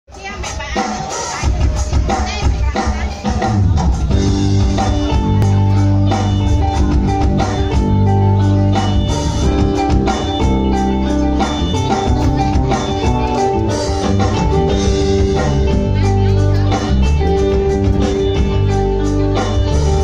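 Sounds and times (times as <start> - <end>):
live pop-rock band playing: 0.1 - 20.0.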